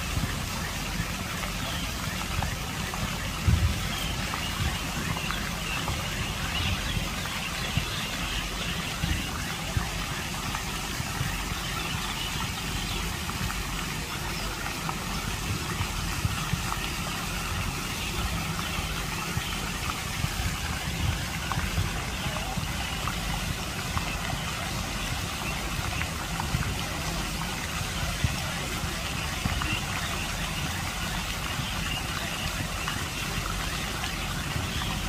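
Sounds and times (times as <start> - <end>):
fountain jets splashing: 0.0 - 35.0.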